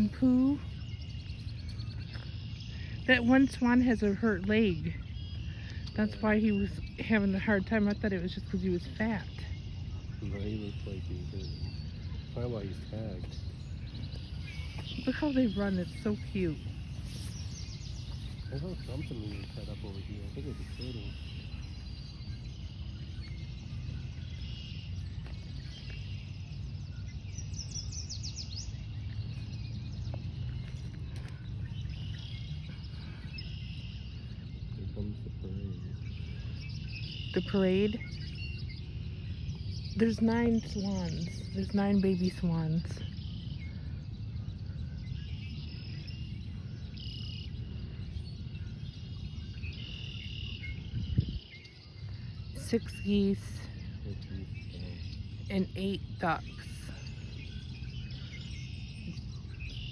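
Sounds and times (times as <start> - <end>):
low outdoor rumble: 0.0 - 59.9
small birds chirping: 0.0 - 59.9.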